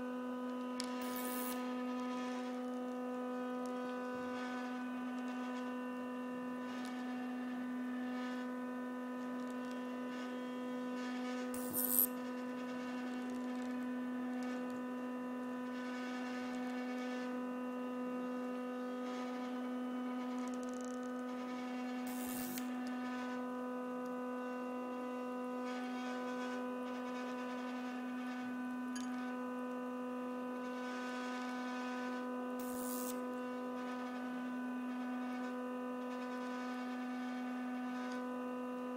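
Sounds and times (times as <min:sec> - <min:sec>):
steady electric hum: 0:00.0 - 0:38.9.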